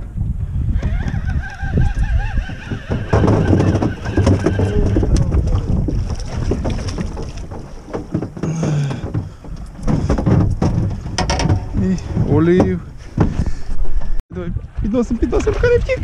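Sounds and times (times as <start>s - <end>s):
wind on microphone: 0.0s - 8.1s, 8.9s - 16.0s
water moving around boat: 0.0s - 16.0s.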